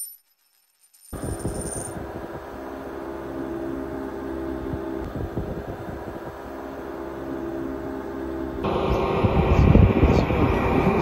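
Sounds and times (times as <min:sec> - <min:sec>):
air conditioner whirring: 0:01.2 - 0:11.0.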